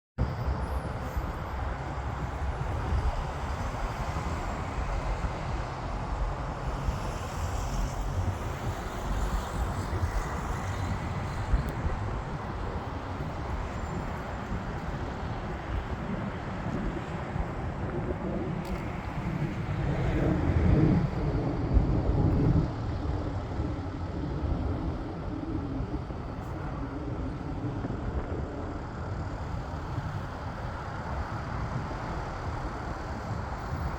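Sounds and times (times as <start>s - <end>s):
jet aircraft rumble: 0.2s - 33.9s
wind buffeting microphone: 0.2s - 33.9s.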